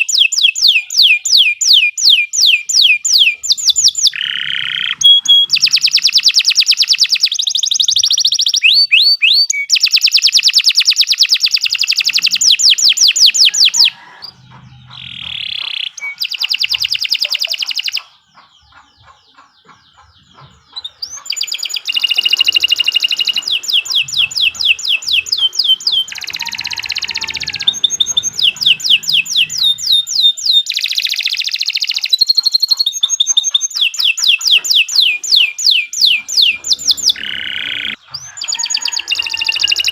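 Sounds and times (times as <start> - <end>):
canary singing high trills: 0.0 - 39.9.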